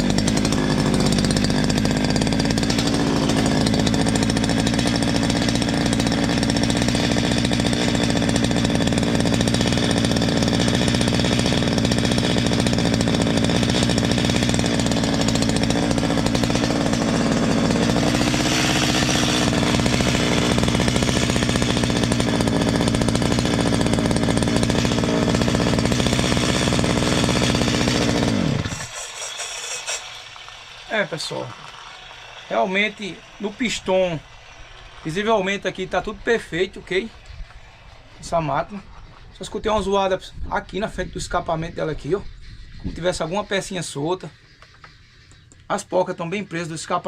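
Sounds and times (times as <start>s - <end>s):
chainsaw engine running: 0.0s - 41.8s.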